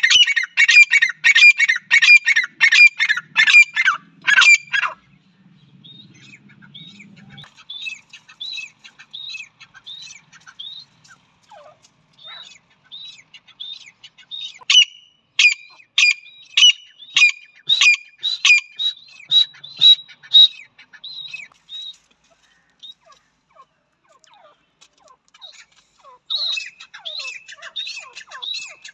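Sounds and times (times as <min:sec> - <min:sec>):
francolins chirping softly: 0:00.0 - 0:28.9
loud sharp bird calls: 0:00.0 - 0:28.9.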